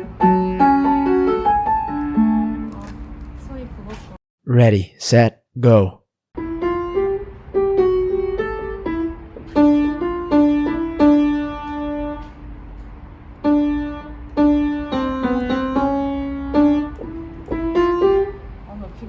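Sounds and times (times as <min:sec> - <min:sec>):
slow piano melody: 0:00.0 - 0:03.2, 0:06.4 - 0:18.7.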